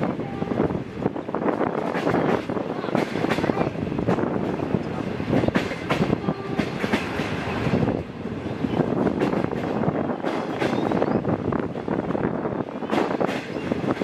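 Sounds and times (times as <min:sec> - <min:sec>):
train wheels running on rails: 0:00.0 - 0:14.0.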